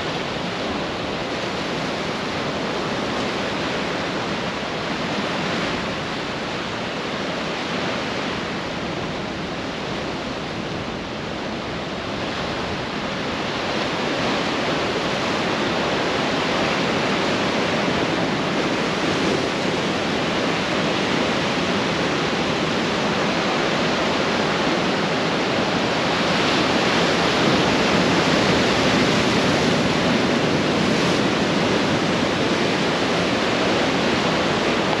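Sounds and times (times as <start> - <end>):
ocean surf washing on beach: 0.0 - 35.0.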